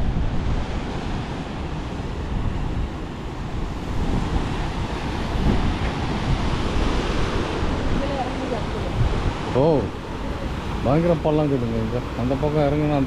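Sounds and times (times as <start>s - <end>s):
surf washing on beach: 0.0s - 13.0s
wind blowing on microphone: 0.0s - 13.0s.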